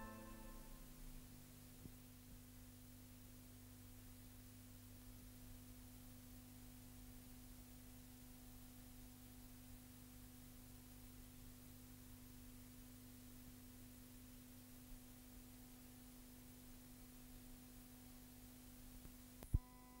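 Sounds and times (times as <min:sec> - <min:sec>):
low hiss: 0:00.0 - 0:19.8
faint steady hum: 0:00.0 - 0:20.0.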